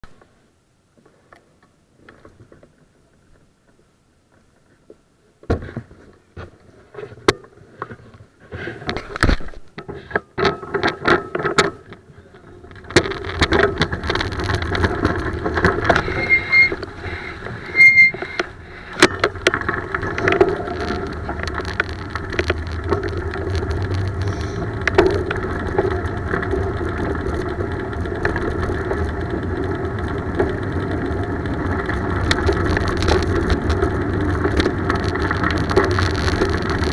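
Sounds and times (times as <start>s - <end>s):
bicycle tyres on road: 0.0s - 36.9s
wind: 0.0s - 36.9s.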